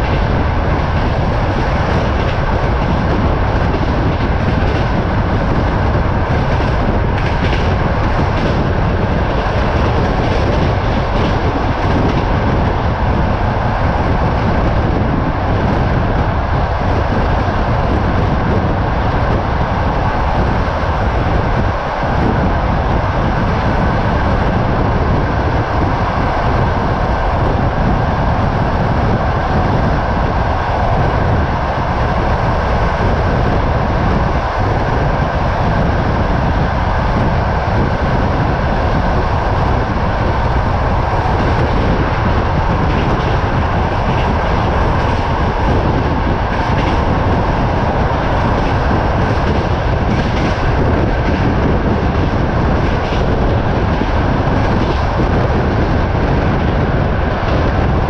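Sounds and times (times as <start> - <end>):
train wheels rumbling on rail: 0.0 - 58.0
wind buffeting microphone: 0.0 - 58.0.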